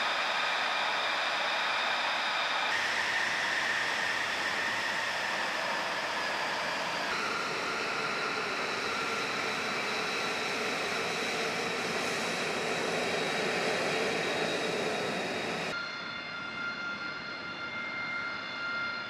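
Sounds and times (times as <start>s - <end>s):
jet engine whining: 0.0s - 19.0s.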